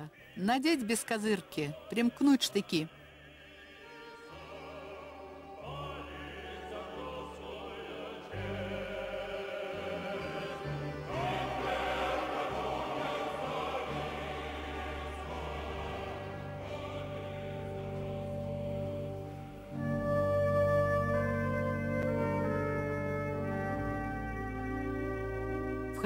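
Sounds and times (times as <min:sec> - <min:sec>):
choir singing long held notes: 0:00.0 - 0:26.0
orchestral music: 0:00.9 - 0:26.0.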